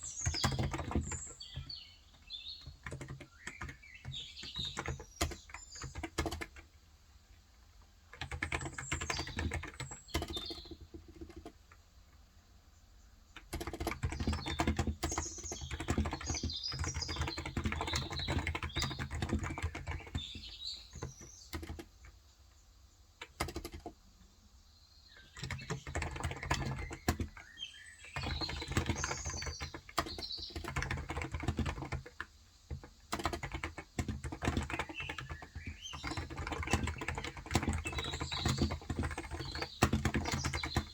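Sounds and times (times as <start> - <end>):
birds chirping: 0.0 - 6.4, 8.3 - 11.5, 12.7 - 32.2, 32.8 - 40.9
keyboard typing: 0.1 - 6.7, 8.1 - 11.8, 13.4 - 22.2, 23.2 - 24.0, 25.2 - 40.9.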